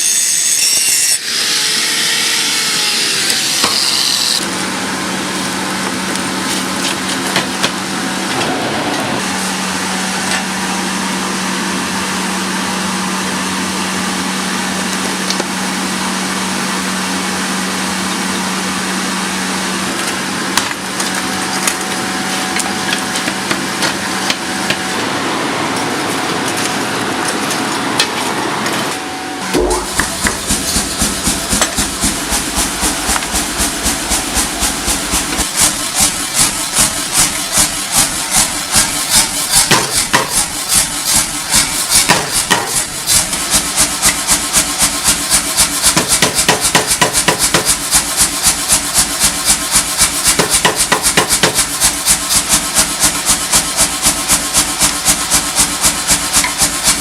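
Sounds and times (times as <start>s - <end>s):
machine humming with hiss: 0.0s - 57.0s.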